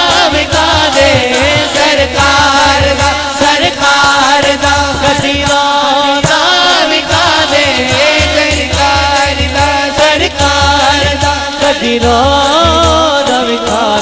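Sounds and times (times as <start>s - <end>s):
man singing into microphone: 0.0s - 14.0s
second singer: 0.0s - 14.0s.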